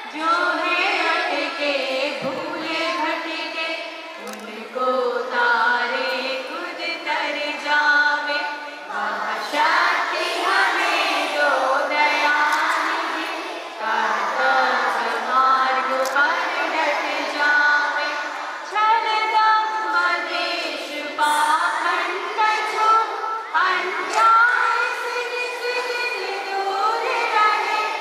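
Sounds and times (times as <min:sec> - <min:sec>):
children singing in unison: 0:00.0 - 0:28.0.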